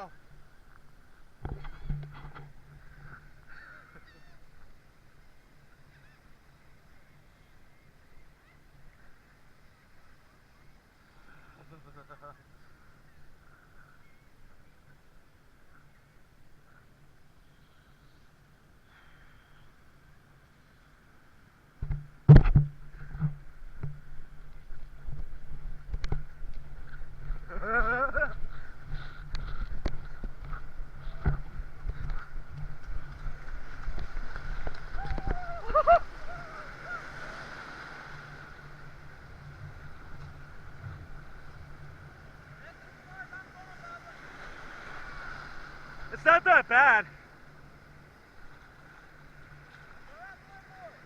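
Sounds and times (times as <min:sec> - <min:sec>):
background hiss: 0:00.0 - 0:51.0.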